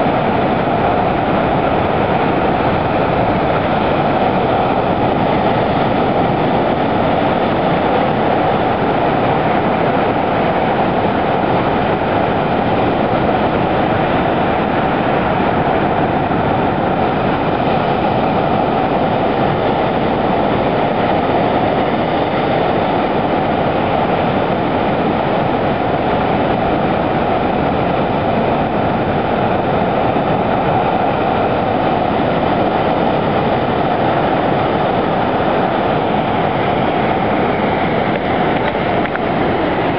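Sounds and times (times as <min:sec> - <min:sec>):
waves crashing on rocks: 0:00.0 - 0:39.9.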